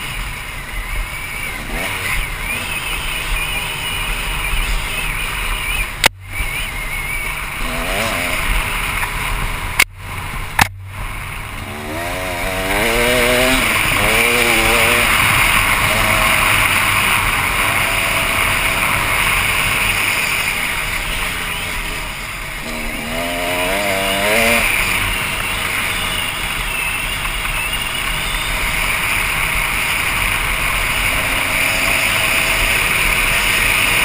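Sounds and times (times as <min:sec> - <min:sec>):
dirt bike engine revving: 0:00.0 - 0:34.0
steady rushing hiss: 0:06.3 - 0:34.0.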